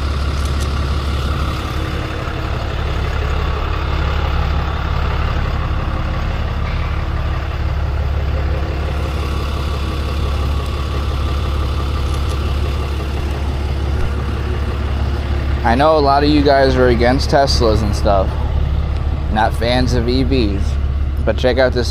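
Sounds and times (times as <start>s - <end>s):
truck engine idling: 0.0s - 21.9s.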